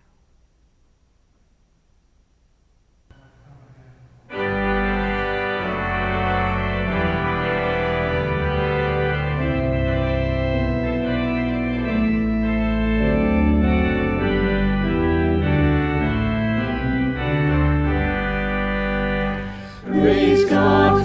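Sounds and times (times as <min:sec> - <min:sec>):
church organ playing chords: 0:03.1 - 0:21.0.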